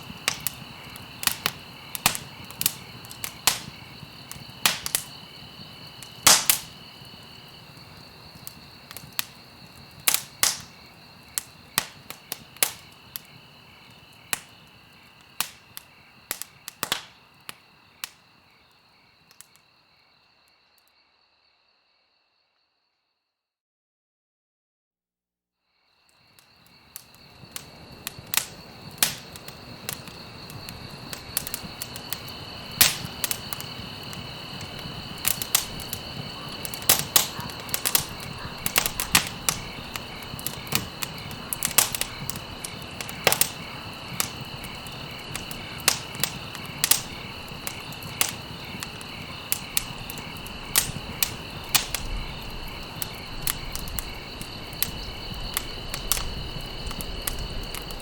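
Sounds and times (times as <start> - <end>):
campfire crackling and popping: 0.0 - 19.8, 26.2 - 58.0
cricket trill: 0.0 - 23.3, 25.6 - 58.0.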